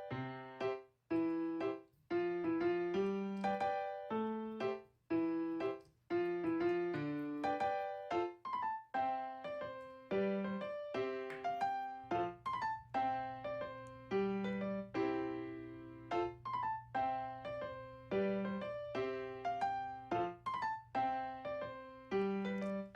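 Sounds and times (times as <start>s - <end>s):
piano melody: 0.0s - 22.9s.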